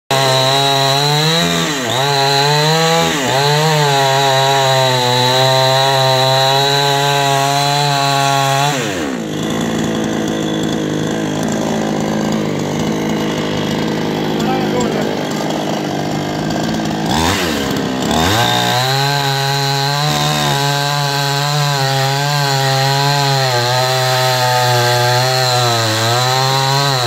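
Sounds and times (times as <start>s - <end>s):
chainsaw cutting wood: 0.1s - 27.0s.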